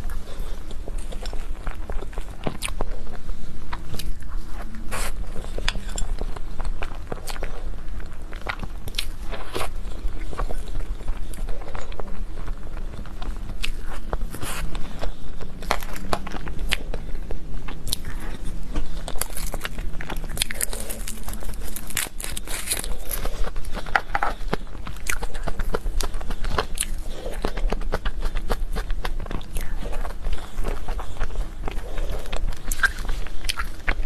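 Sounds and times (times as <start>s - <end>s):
crunchy chewing mouth sounds: 0.0s - 34.0s.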